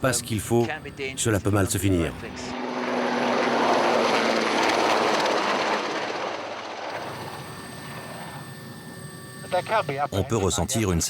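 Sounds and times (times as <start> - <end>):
helicopter flying past: 0.0 - 10.1.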